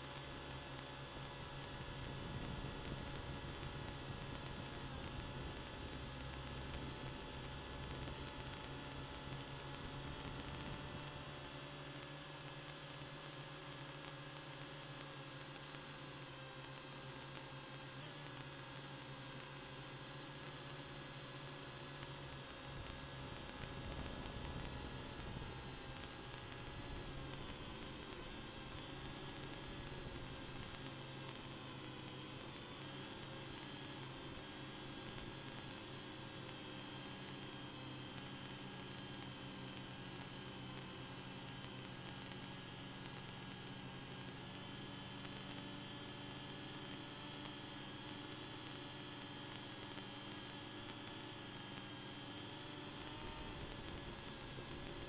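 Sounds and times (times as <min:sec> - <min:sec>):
faint steady tones: 0:00.0 - 0:55.0
quadcopter humming in flight: 0:00.0 - 0:55.0.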